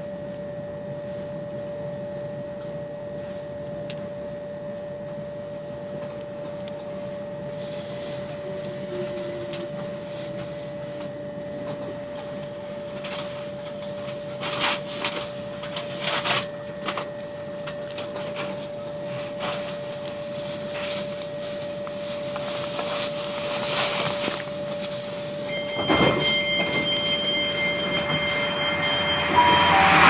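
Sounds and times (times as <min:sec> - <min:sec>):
low ventilation noise: 0:00.0 - 0:30.0
steady electrical hum: 0:00.0 - 0:30.0.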